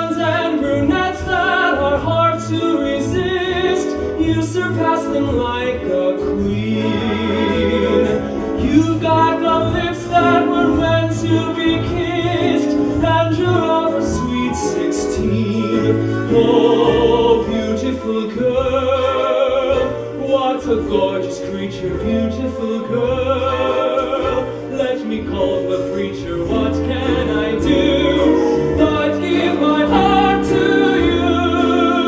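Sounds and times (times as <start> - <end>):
person singing with vibrato: 0.0 - 32.0
theatre orchestra playing: 0.0 - 32.0.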